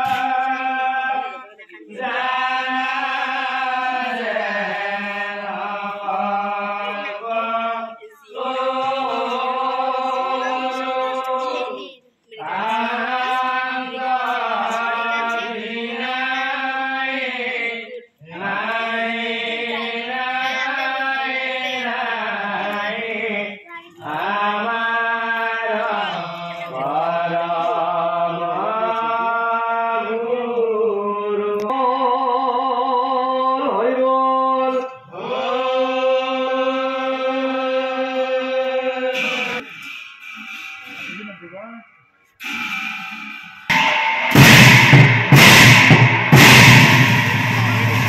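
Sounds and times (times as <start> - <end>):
men chanting devotional song: 0.0 - 48.0.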